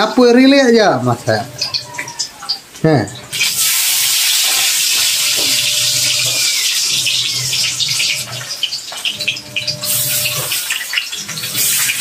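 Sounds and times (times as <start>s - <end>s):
oil sizzling: 0.0s - 12.0s
oil crackling: 0.9s - 12.0s.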